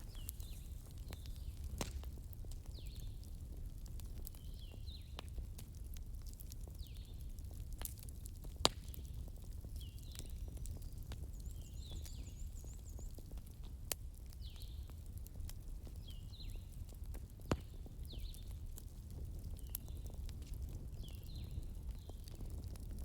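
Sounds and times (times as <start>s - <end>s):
fire pops: 0.0s - 23.0s
low rumble of flames: 0.0s - 23.0s
wood fire crackling: 0.0s - 23.0s.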